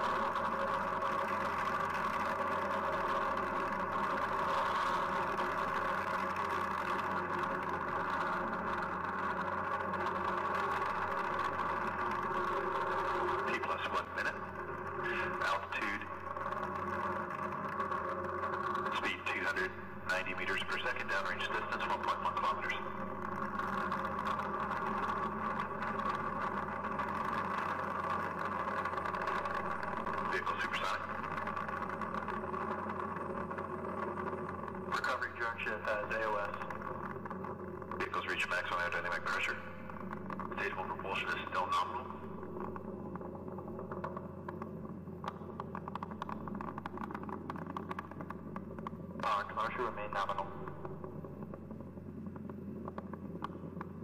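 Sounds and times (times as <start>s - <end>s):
rocket engines roaring: 0.0s - 54.0s.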